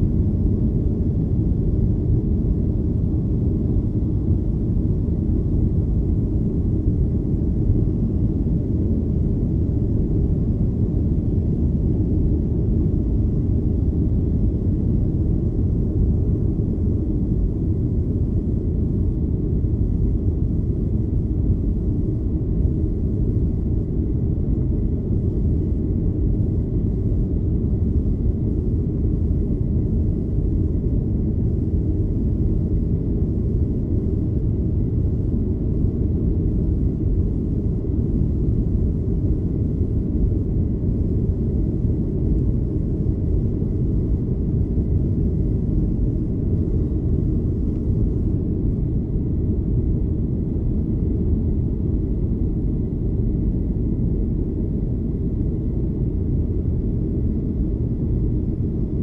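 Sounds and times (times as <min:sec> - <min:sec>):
faint high whine: 0:00.0 - 0:59.0
jet engines and airflow roar: 0:00.0 - 0:59.0.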